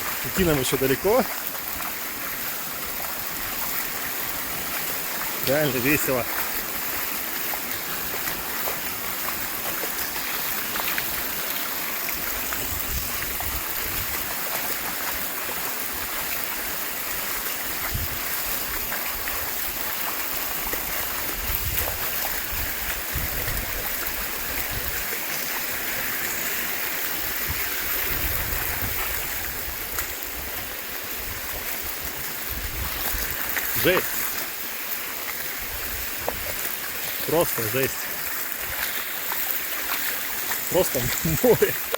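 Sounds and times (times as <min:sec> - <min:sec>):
floodwater rushing along street: 0:00.0 - 0:41.9.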